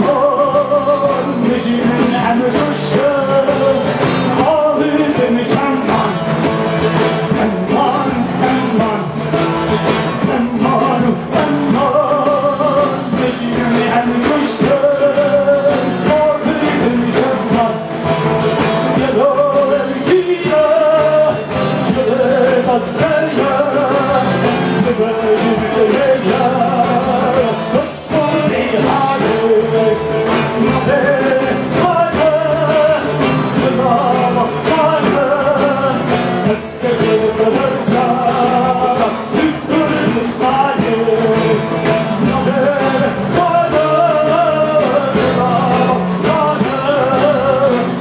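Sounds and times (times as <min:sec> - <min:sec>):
amplified band playing: 0:00.0 - 0:48.0
frame drums: 0:00.0 - 0:48.0
man singing into a microphone: 0:00.0 - 0:48.0.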